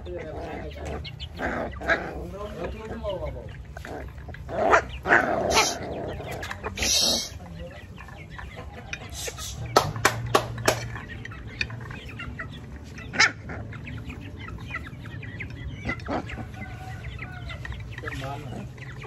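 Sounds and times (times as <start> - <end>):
clucking animal calls: 0.0 - 19.0.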